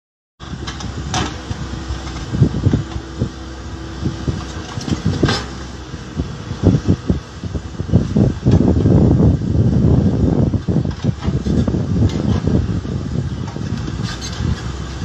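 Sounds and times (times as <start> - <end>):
diesel engine running: 0.4 - 15.0.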